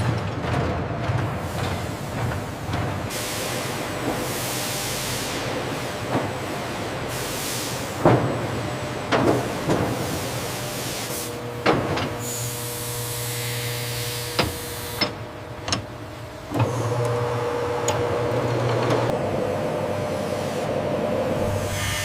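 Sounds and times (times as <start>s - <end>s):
workshop machinery humming: 0.1s - 22.0s.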